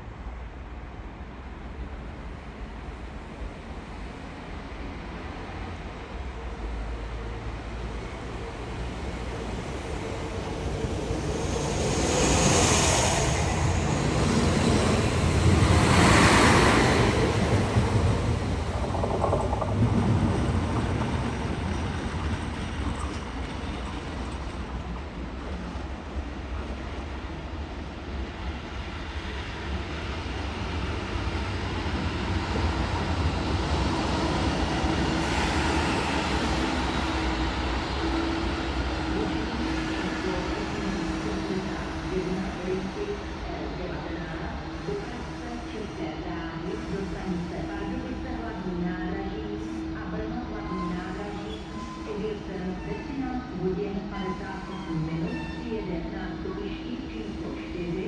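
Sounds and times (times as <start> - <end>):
train rumbling: 1.0 - 58.0.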